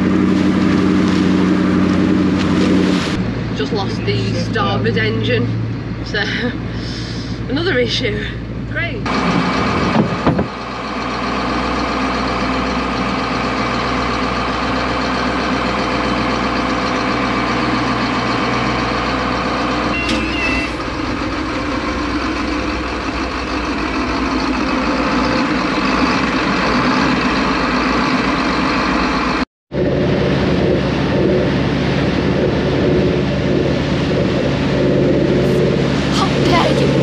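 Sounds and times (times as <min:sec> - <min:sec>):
boat diesel engine running: 0:00.0 - 0:37.0.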